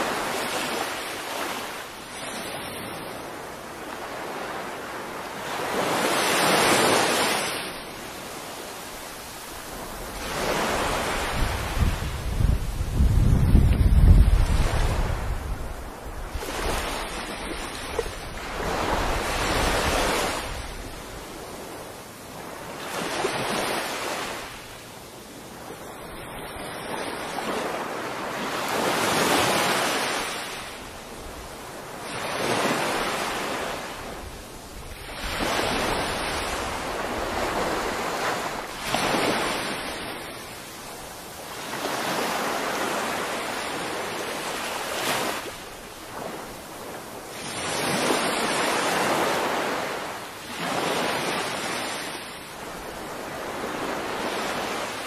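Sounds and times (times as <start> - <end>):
small waves breaking on beach: 0.0 - 55.0.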